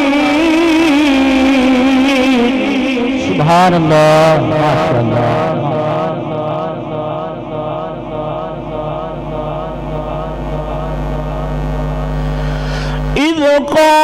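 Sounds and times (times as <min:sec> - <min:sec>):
man reciting a long melodic note: 0:00.0 - 0:14.0.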